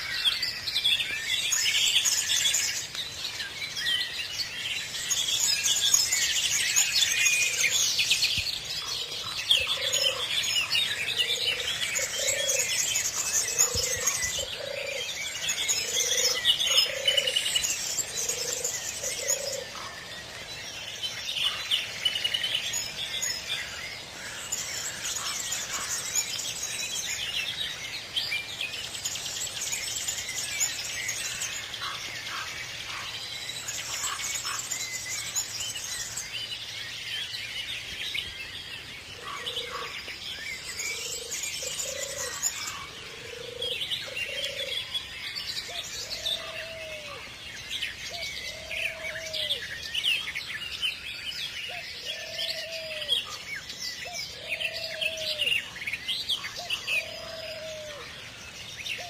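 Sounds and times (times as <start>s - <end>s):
birds chirping and singing: 0.0s - 59.0s.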